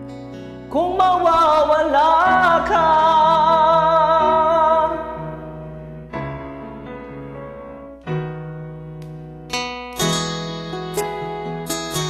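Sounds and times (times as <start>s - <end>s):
sustained keyboard chords: 2.0s - 12.0s.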